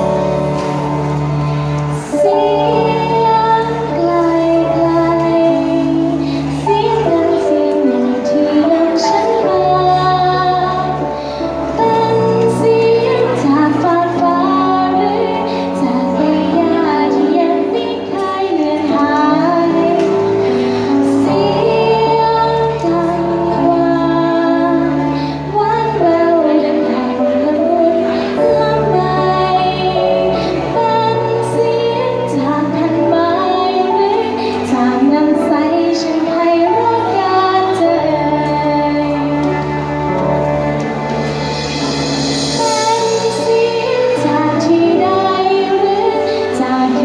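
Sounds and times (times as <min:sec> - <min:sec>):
backing music with bass: 0:00.0 - 0:47.0
young woman singing: 0:01.9 - 0:40.6, 0:42.4 - 0:47.0.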